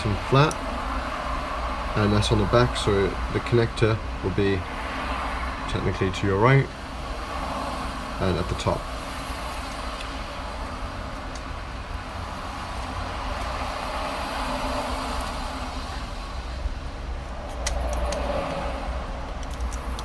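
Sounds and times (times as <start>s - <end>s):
motorway traffic passing: 0.0s - 20.0s.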